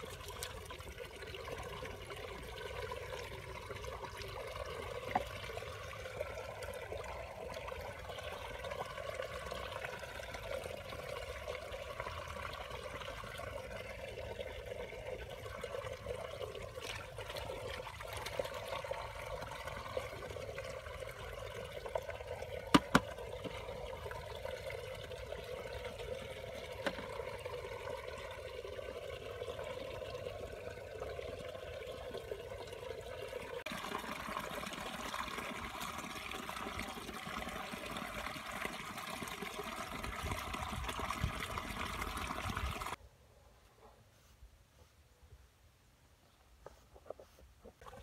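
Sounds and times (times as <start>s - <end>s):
water trickling through mud: 0.0s - 43.0s, 46.6s - 48.0s.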